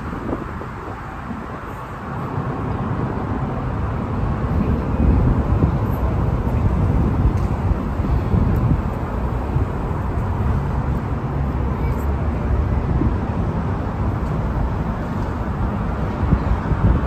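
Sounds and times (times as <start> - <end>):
road traffic rumbling: 0.0 - 17.0.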